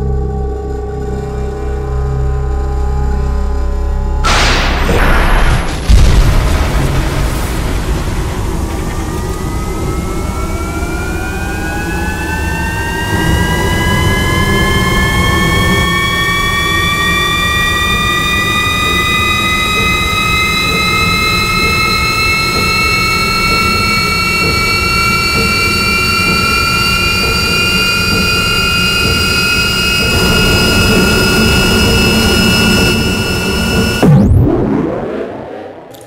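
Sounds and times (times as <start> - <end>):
multi-tone rising whine: 0.0 - 36.0
low rumble: 3.4 - 36.0.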